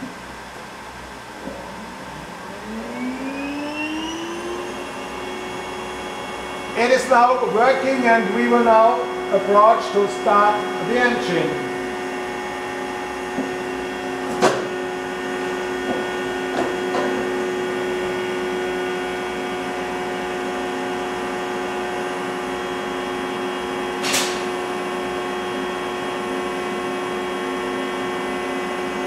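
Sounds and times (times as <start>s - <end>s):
steady hum with held tones: 0.0s - 29.0s.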